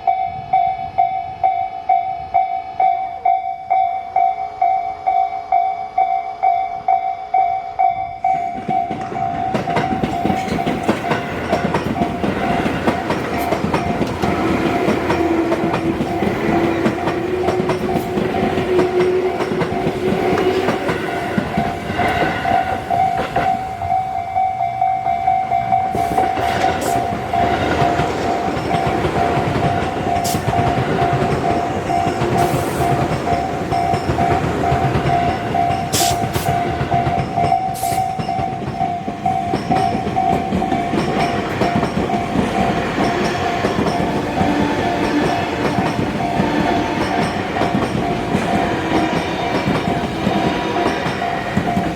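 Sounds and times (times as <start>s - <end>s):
railroad crossing bell ringing: 0.0s - 51.9s
train wheels clattering on rails: 8.2s - 24.3s, 25.2s - 51.9s.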